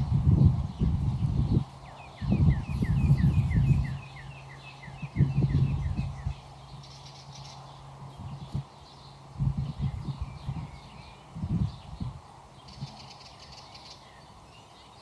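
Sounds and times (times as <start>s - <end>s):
bird chirping: 0.4s - 15.0s.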